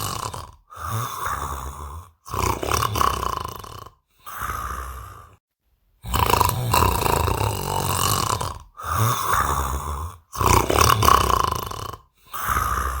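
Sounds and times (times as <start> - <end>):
man snoring loudly: 0.0 - 5.4, 6.0 - 13.0.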